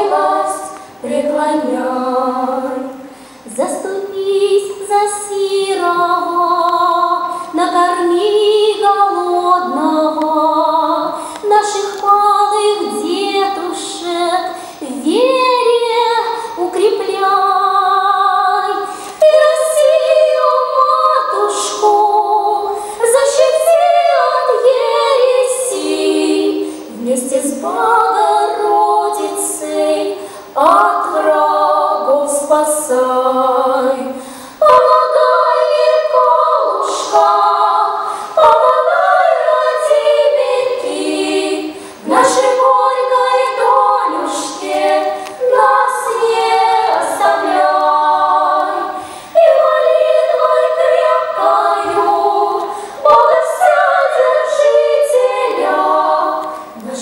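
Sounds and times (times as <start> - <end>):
girls' choir singing: 0.0 - 57.0
woman singing unaccompanied: 0.0 - 57.0.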